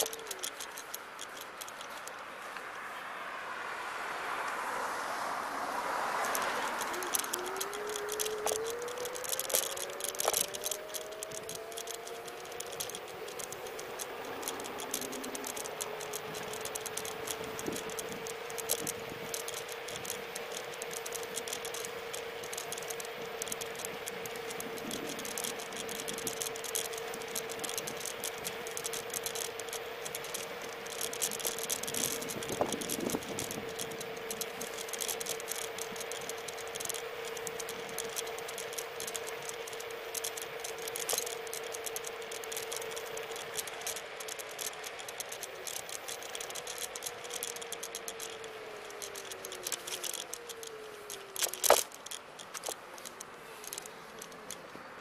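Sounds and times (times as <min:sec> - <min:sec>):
scooter rattling: 0:00.0 - 0:55.0
electric motor whine: 0:05.4 - 0:55.0.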